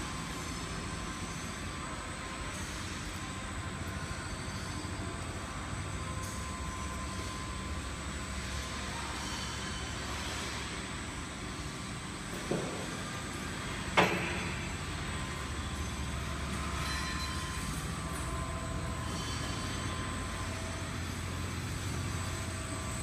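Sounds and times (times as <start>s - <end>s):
belt conveyor humming: 0.0s - 23.0s.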